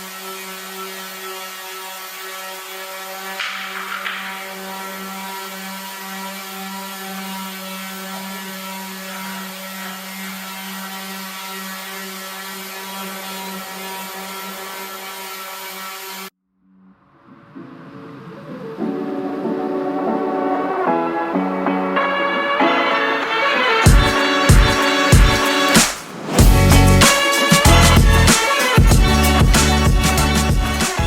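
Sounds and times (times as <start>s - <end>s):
power tool motor buzzing: 0.0s - 16.3s, 21.3s - 31.0s.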